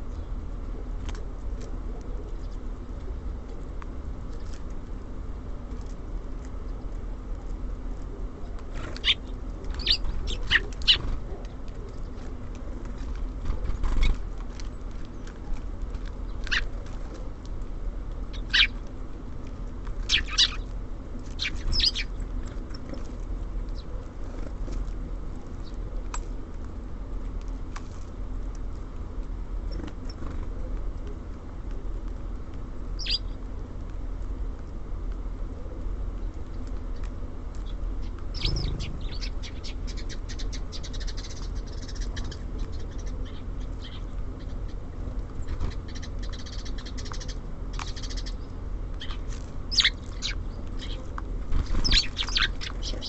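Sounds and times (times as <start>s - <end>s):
songbirds chirping: 0.0s - 53.0s
steady low rumble: 0.0s - 53.0s.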